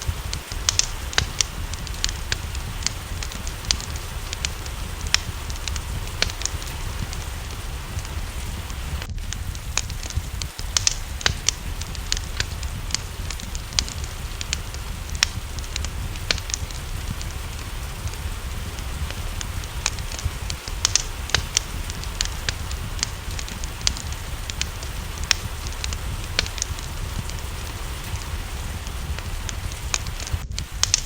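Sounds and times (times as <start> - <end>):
low rumble: 0.0 - 31.0
rain hissing: 0.0 - 31.0
wood fire crackling and popping: 0.0 - 31.0.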